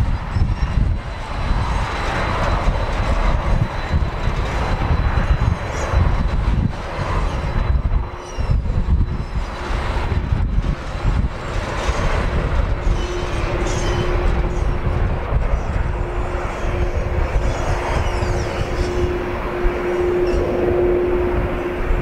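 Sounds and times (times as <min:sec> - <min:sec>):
jet engines running: 0:00.0 - 0:22.0
wind buffeting the microphone: 0:00.0 - 0:22.0.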